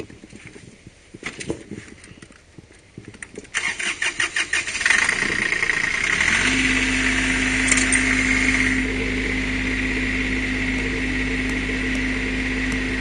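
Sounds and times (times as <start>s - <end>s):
tractor engine cranking and running: 0.0s - 13.0s.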